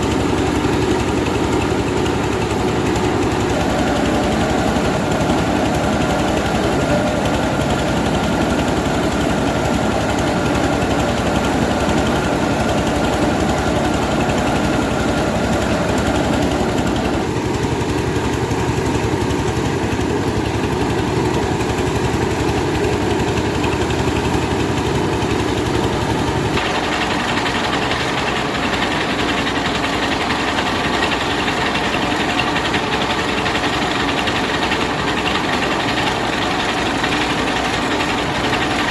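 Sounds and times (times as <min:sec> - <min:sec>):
rice milling machine droning: 0:00.0 - 0:38.9.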